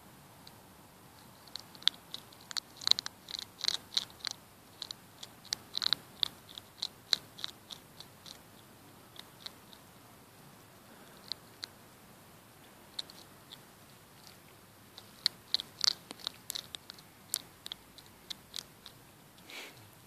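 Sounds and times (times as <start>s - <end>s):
hedgehog chewing food: 1.2s - 10.3s, 10.9s - 11.9s, 12.6s - 19.4s.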